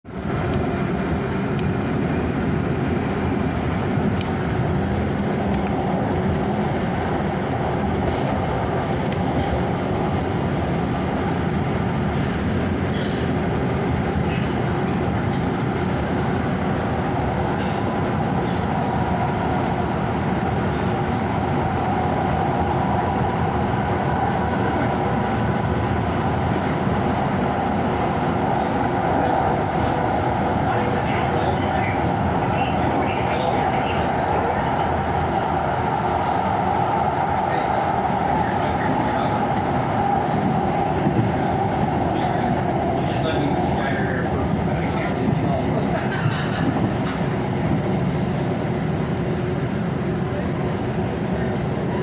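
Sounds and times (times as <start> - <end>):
freight train rolling past: 0.1 - 52.0.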